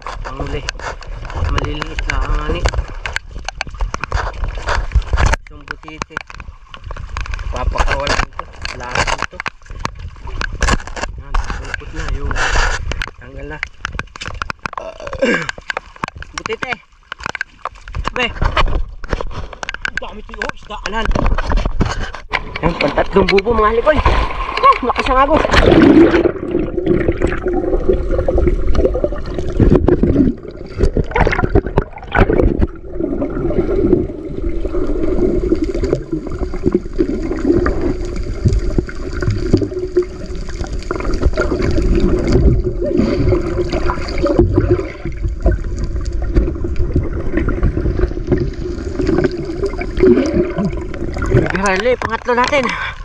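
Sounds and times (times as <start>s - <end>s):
muffled underwater water rushing: 0.0s - 53.0s.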